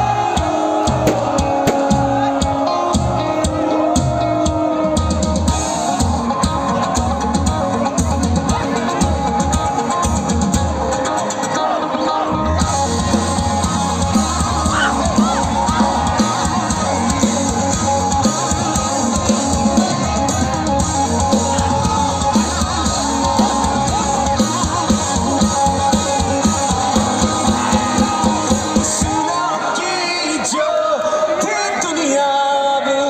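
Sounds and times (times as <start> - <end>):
drum kit beat: 0.0 - 11.6, 12.6 - 29.5
electric guitars: 0.0 - 29.8.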